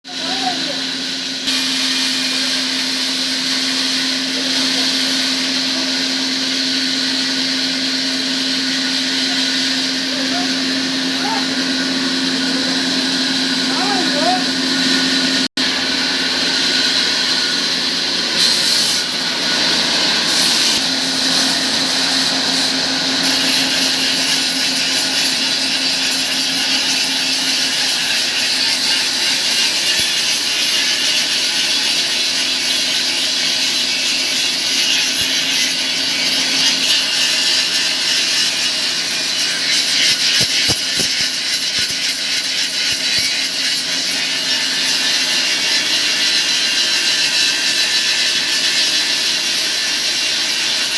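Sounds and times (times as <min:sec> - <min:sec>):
sawmill saw hissing: 0:00.0 - 0:50.9.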